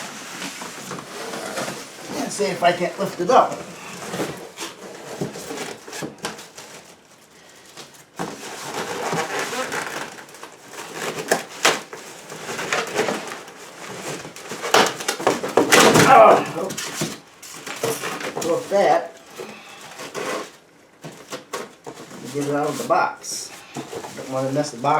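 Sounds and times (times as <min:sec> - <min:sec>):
cardboard and foam rustling: 0:00.0 - 0:24.9.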